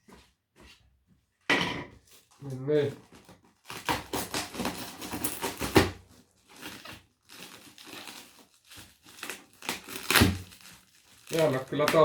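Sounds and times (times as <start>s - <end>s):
packaging rustling: 2.0s - 12.0s
packaging crinkling and tearing: 2.1s - 12.0s.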